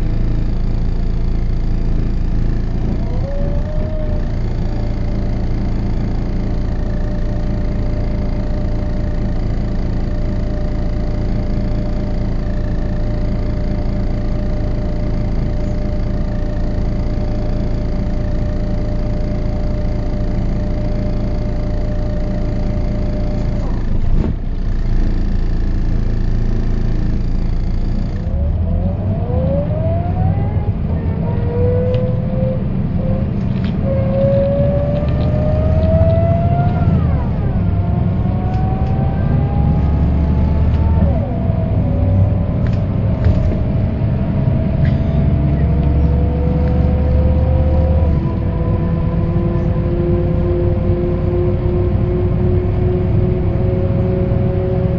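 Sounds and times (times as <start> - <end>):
axle whine rising in pitch: 0.0 - 54.9
bus diesel engine running: 0.0 - 54.9.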